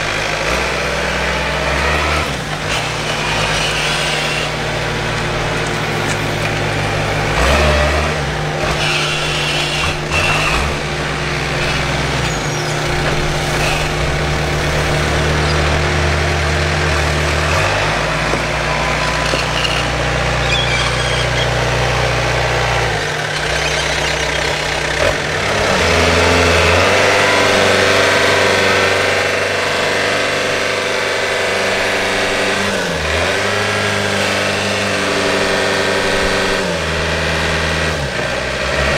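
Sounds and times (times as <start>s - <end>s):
tractor engines revving: 0.0s - 38.9s.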